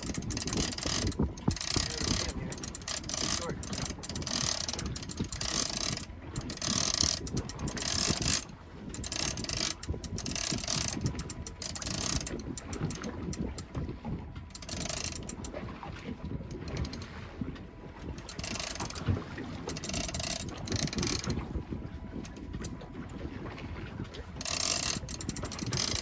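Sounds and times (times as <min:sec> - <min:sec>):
fishing reel ratcheting and whirring: 0:00.0 - 0:15.6, 0:16.4 - 0:17.1, 0:18.0 - 0:22.8, 0:24.3 - 0:26.0
wind on microphone: 0:00.0 - 0:26.0.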